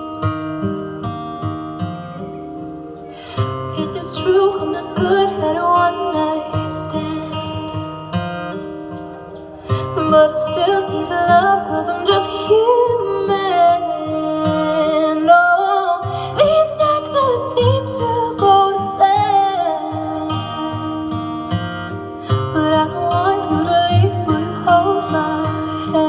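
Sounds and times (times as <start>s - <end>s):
person singing: 3.1s - 8.0s, 9.6s - 26.0s.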